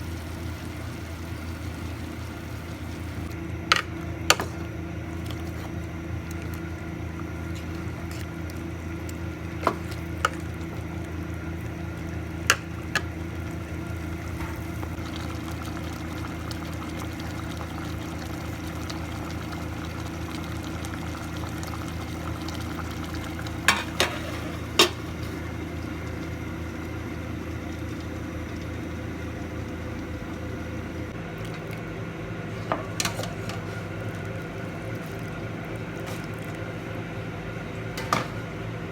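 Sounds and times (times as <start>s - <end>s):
food cooking in a pot: 0.0s - 38.9s
steady hum: 0.0s - 38.9s.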